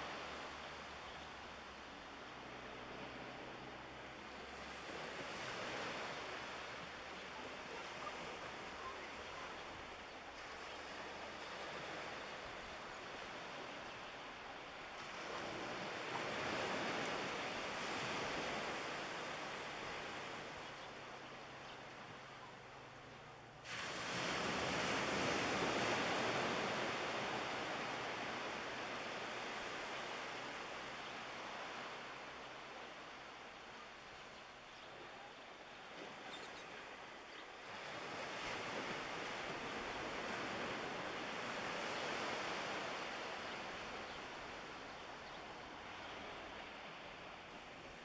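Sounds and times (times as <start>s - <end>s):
small waves at shoreline: 0.0s - 48.0s
wind: 0.0s - 48.0s.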